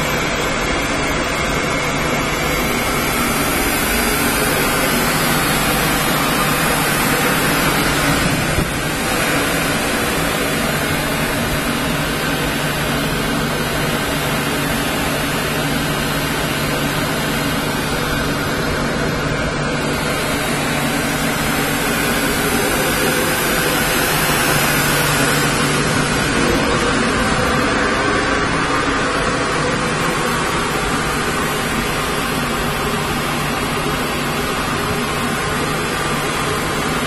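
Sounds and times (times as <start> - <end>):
machinery drone: 0.0 - 37.0.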